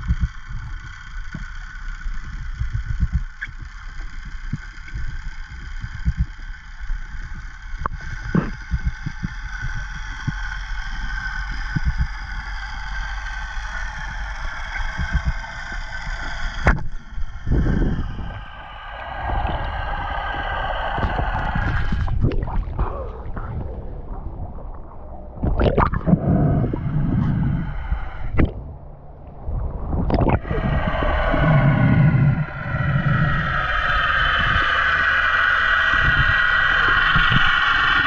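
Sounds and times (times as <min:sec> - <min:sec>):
low underwater rumble: 0:00.0 - 0:38.0
underwater boat engine whine: 0:00.0 - 0:38.0.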